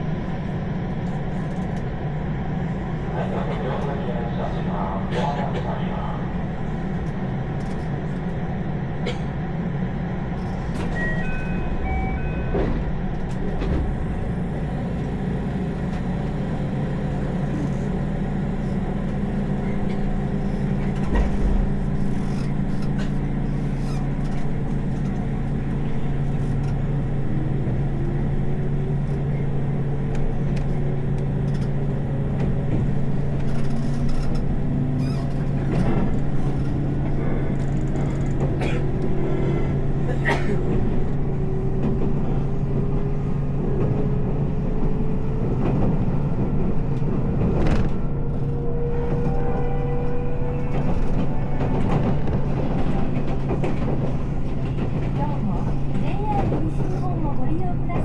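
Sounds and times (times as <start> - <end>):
train hum on rails: 0.0 - 58.0.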